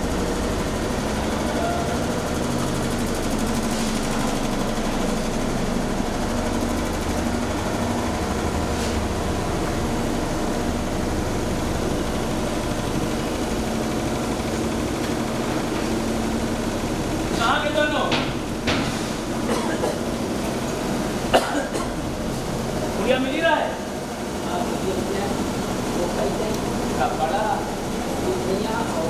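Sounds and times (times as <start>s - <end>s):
engine-like drone with low hum: 0.0s - 29.0s.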